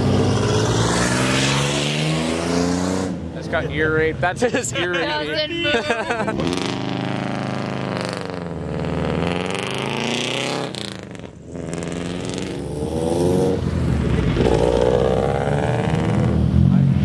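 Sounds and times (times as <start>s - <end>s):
cars accelerating past: 0.0s - 4.3s, 6.0s - 17.0s.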